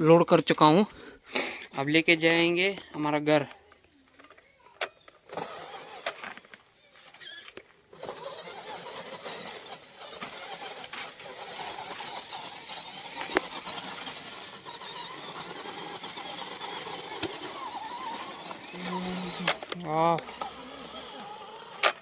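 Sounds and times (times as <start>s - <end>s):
toy truck motor whining: 4.2s - 22.0s.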